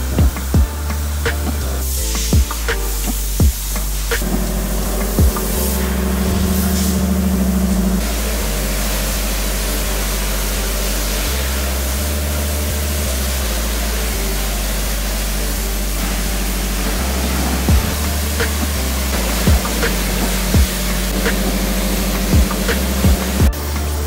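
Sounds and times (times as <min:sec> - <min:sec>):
background music with bass: 0:00.0 - 0:24.0
pressure washer spraying water: 0:00.0 - 0:24.0.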